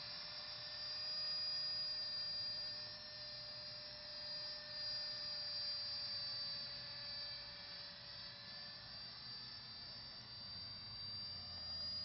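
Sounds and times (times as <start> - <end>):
drone motor hum and whine: 0.0 - 12.0.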